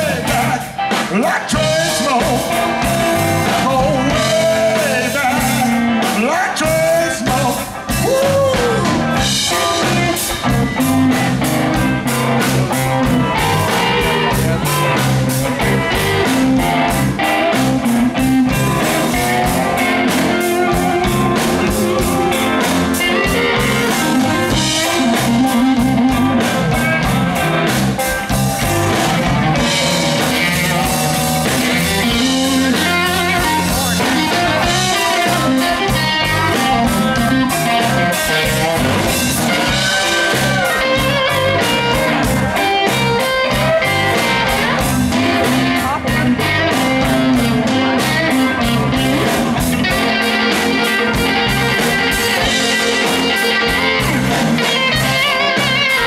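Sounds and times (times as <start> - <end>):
electric blues band playing: 0.0 - 56.0
electric guitar: 0.0 - 56.0.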